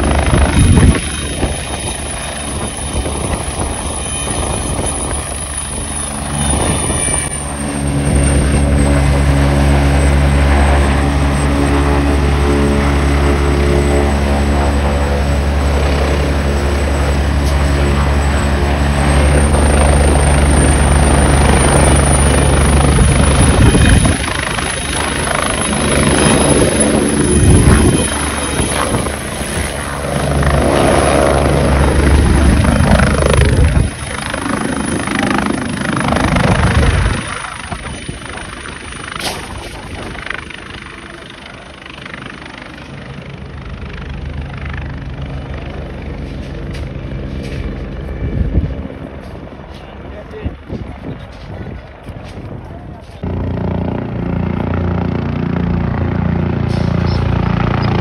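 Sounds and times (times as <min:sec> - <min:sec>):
helicopter rotor noise: 0:00.0 - 0:58.0
helicopter turbine whine: 0:00.0 - 0:58.0.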